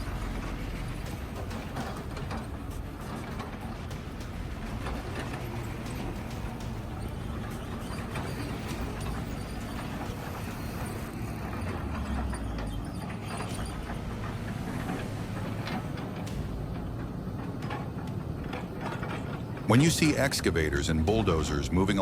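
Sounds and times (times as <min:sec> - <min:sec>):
knocks and clanks: 0:00.0 - 0:20.0
earthmoving machine running: 0:00.0 - 0:22.0.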